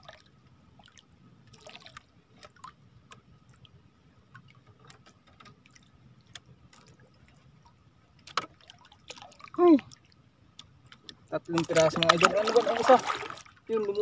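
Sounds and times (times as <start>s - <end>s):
water dripping and trickling: 0.0s - 14.0s.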